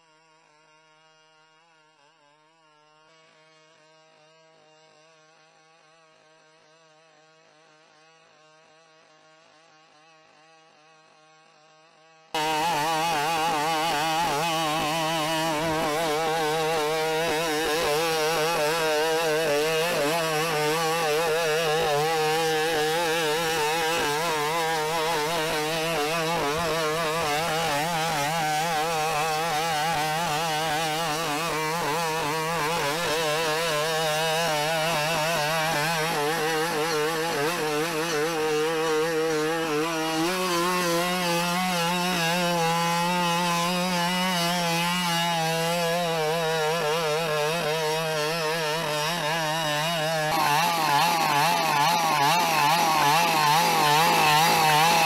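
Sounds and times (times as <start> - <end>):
small engine buzzing: 0.0 - 55.0.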